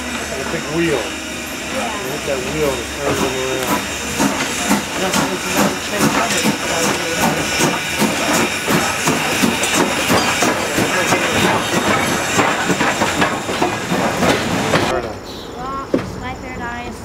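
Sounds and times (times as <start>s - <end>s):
steam hissing: 0.0s - 14.9s
locomotive wheels clanking on rails: 0.0s - 17.0s.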